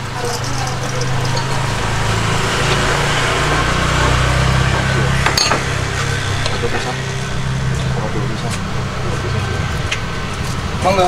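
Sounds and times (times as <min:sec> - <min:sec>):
steady low drone: 0:00.0 - 0:11.0.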